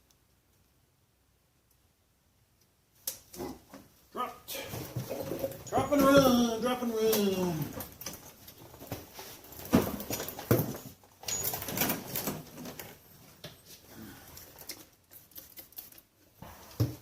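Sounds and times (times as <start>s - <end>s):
rustling: 3.0s - 17.0s.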